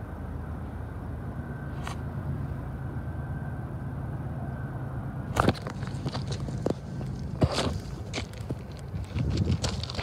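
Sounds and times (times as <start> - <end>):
diesel locomotive rumble: 0.0 - 10.0.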